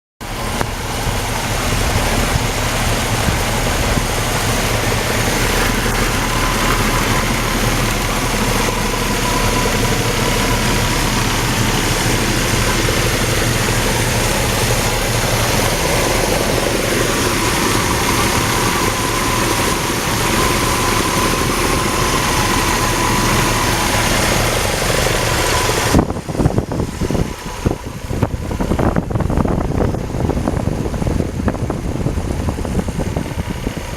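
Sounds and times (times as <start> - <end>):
pickup engine idling: 0.2 - 33.9.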